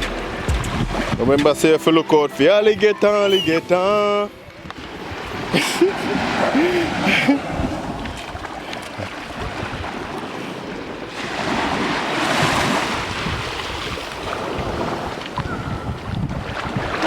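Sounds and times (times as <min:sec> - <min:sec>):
wind on microphone: 0:00.0 - 0:01.4, 0:03.3 - 0:17.0
surf washing on shore: 0:00.0 - 0:02.7, 0:03.3 - 0:17.0.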